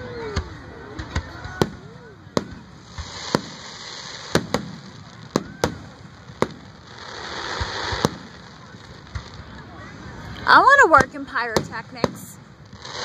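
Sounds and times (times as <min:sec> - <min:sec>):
crackling firework: 0:00.0 - 0:13.0.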